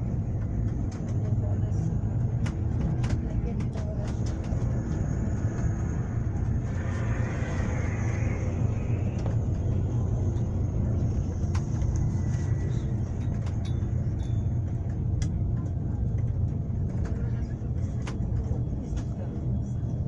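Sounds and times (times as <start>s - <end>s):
vehicle interior rumble: 0.0s - 20.0s.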